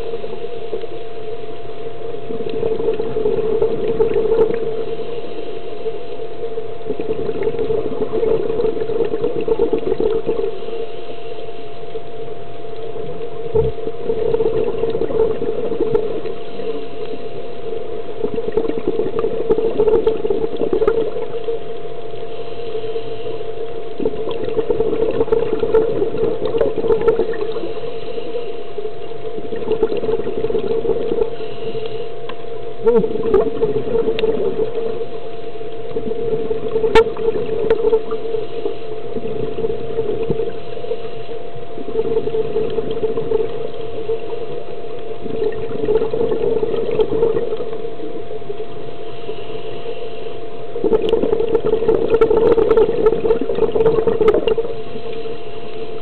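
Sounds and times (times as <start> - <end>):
diver's bubbles gurgling: 0.0 - 56.0
steady underwater hum: 0.0 - 56.0.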